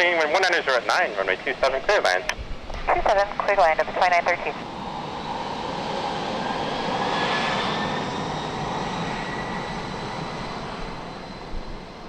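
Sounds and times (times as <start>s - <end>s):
jet engines roaring: 0.0s - 12.0s
faint rising whine: 0.6s - 12.0s.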